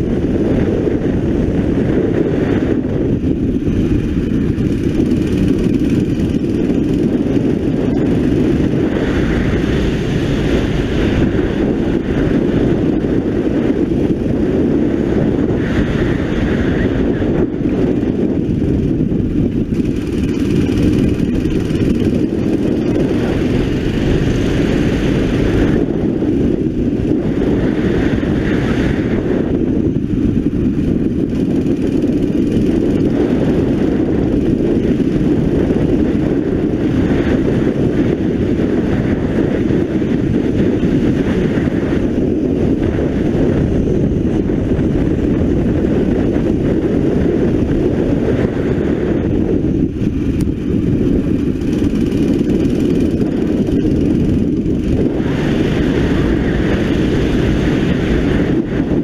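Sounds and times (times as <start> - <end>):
kart engine droning: 0.0 - 59.0.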